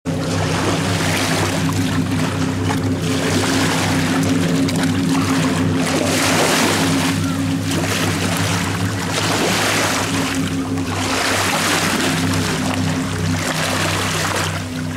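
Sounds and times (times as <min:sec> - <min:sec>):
low droning hum: 0:00.1 - 0:14.9
small waves washing over sand: 0:00.2 - 0:14.9.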